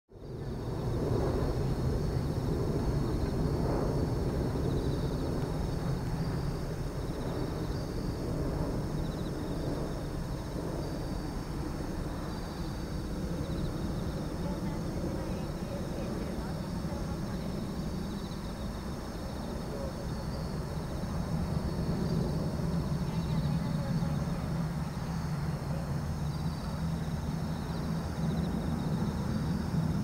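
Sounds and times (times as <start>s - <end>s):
distant jet airliner drone: 0.1s - 30.0s.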